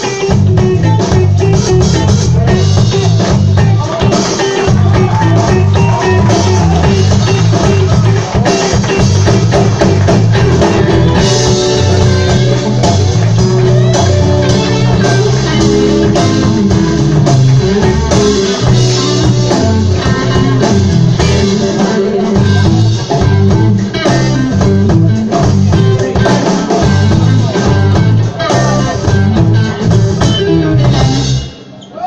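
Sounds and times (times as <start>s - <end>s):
stepping bass line: 0.0s - 31.5s
drums: 0.0s - 32.0s
guitar: 0.0s - 32.0s.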